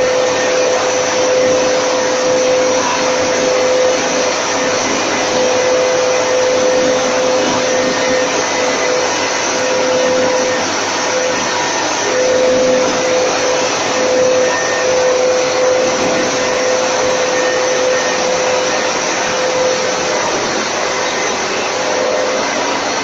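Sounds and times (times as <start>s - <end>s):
fan whine: 0.0s - 23.0s
rushing air from fans: 0.0s - 23.0s.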